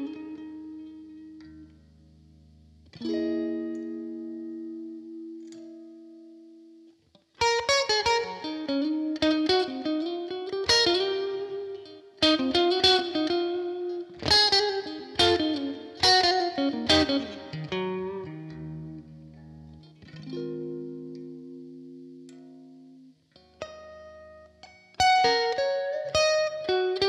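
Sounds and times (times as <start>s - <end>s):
electric guitar chords and notes: 0.0s - 27.0s.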